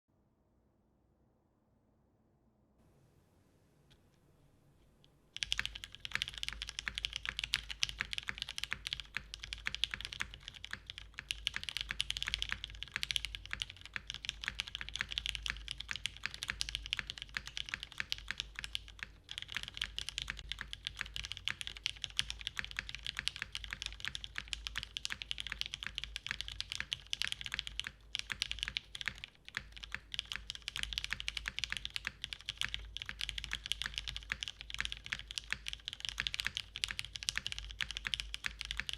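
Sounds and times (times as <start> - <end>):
fast typing on mechanical keyboard: 5.4 - 38.9.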